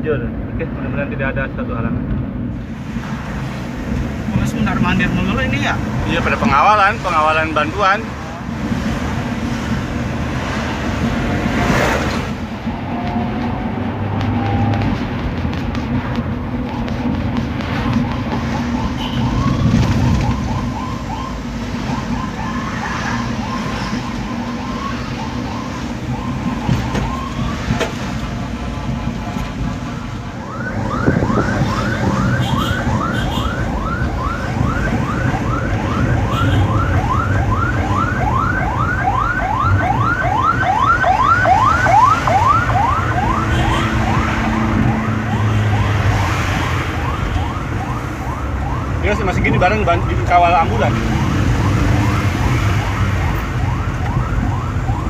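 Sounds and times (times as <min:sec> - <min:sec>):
moving vehicle road noise: 0:00.0 - 0:55.0
ambulance siren: 0:03.6 - 0:55.0.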